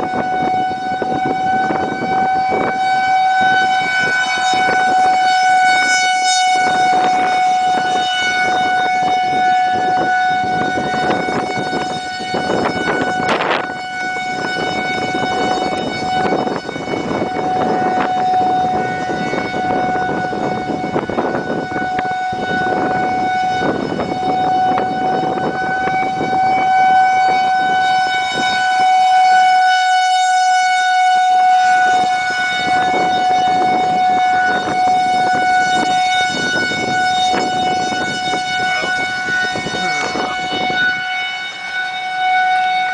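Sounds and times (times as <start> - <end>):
gusty wind rumbling: 0.0 - 42.9
tornado warning siren: 0.0 - 42.9.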